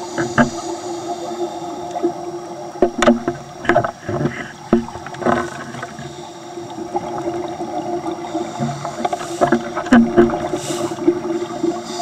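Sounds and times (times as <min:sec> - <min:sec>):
steady hum: 0:00.0 - 0:12.0
bubbles gurgling underwater: 0:01.9 - 0:12.0.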